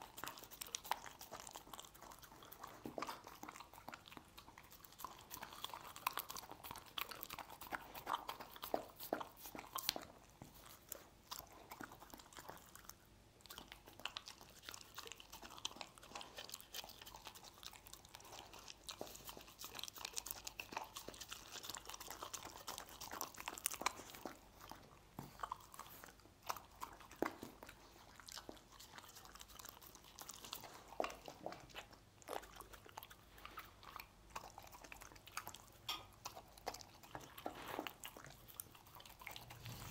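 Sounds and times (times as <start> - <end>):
dog chewing with crunches: 0.0 - 39.9.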